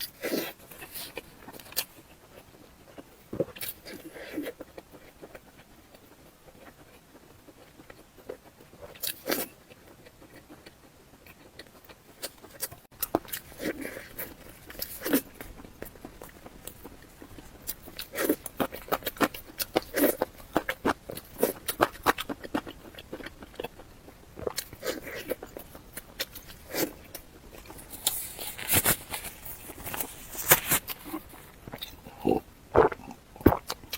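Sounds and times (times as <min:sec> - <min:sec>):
crunchy food being chewed: 0:00.0 - 0:33.9.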